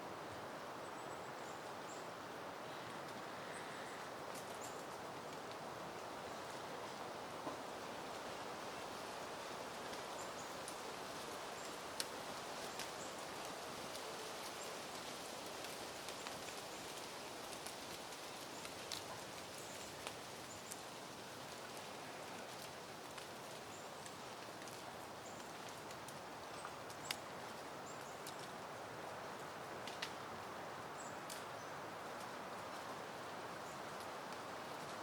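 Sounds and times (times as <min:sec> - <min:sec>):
wind rustling through plants: 0:00.0 - 0:35.0.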